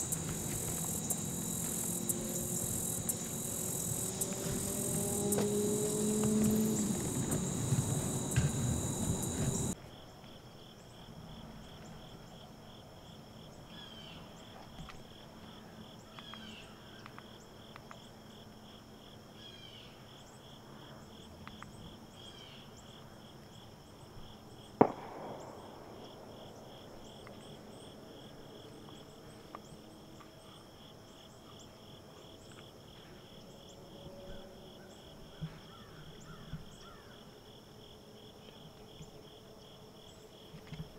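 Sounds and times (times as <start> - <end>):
crickets trilling and chirping: 0.0 - 40.9.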